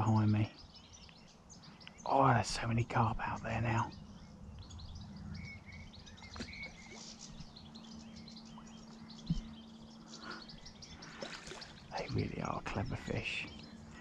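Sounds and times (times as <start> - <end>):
faint low hum: 0.0 - 14.0
small birds chirping: 0.0 - 14.0.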